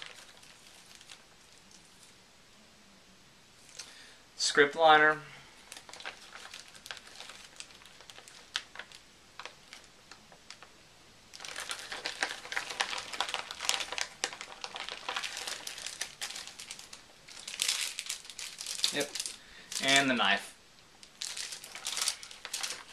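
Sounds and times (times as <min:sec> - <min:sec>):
packaging crinkling and rustling: 0:00.0 - 0:02.2, 0:03.6 - 0:03.9, 0:05.4 - 0:10.7, 0:11.3 - 0:20.4, 0:21.0 - 0:22.9.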